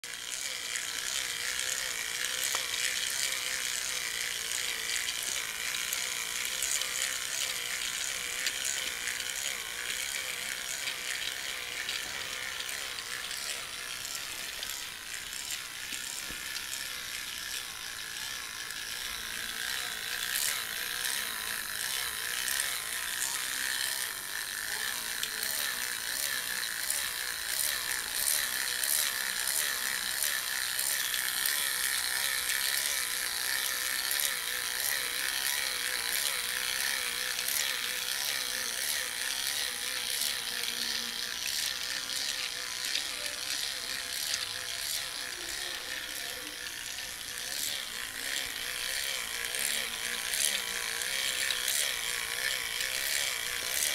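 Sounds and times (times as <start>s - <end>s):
toy train motors whirring: 0.0s - 53.9s
fast rattling clicks: 0.1s - 53.9s.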